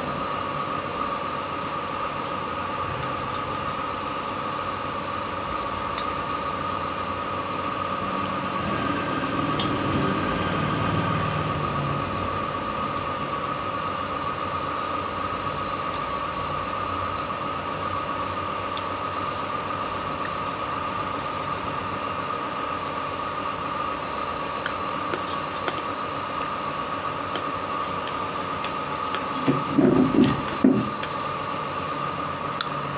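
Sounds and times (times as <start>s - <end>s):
motor humming with whine: 0.0s - 32.9s.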